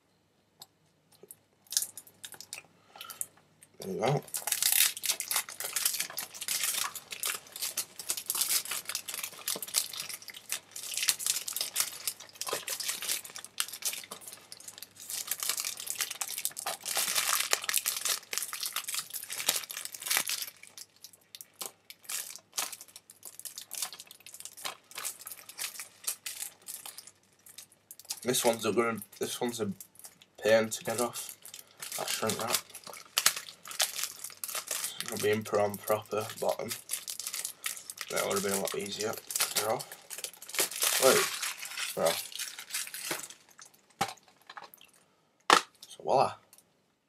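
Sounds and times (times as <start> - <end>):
plastic wrap crinkling: 1.2 - 46.6
plastic wrap tearing: 4.1 - 44.8.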